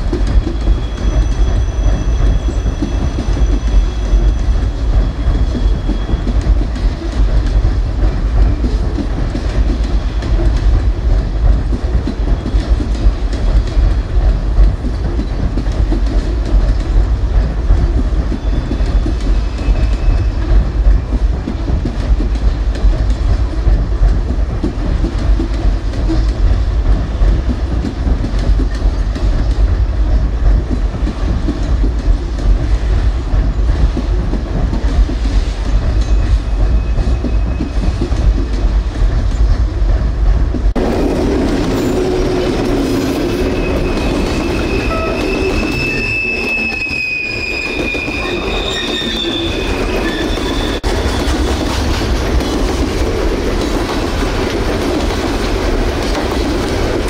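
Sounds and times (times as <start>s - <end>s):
train cars rumbling: 0.0s - 57.0s
wheels clacking over rail joints: 0.0s - 57.0s.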